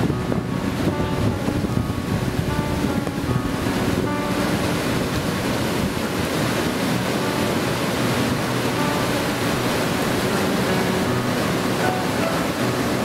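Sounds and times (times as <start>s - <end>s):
flood water rushing over rocks: 0.0s - 13.0s.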